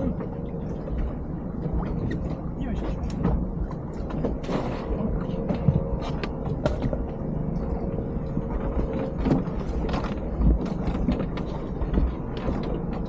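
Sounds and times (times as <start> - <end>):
low rumble: 0.0 - 13.0
steady mechanical whine: 0.0 - 13.0.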